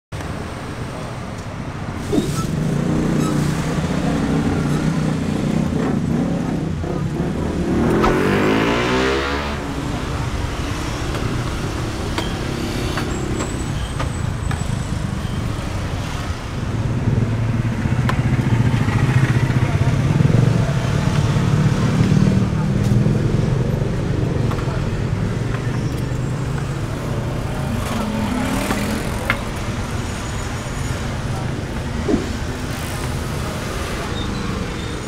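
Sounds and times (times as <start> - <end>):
traffic engines running: 0.1 - 35.0.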